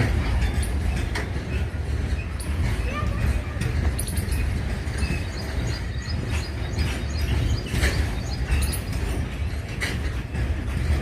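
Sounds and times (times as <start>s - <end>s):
freight train rumble: 0.0s - 11.0s
wheels clacking on rails: 0.0s - 11.0s.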